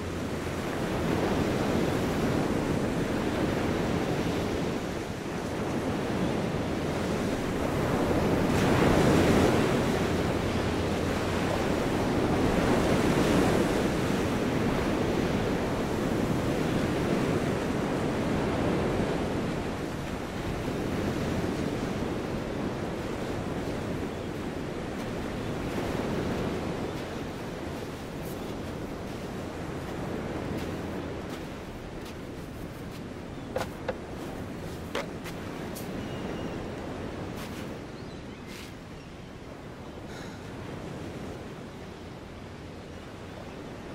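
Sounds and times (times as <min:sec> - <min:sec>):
waves breaking on beach: 0:00.0 - 0:38.9, 0:39.5 - 0:43.9.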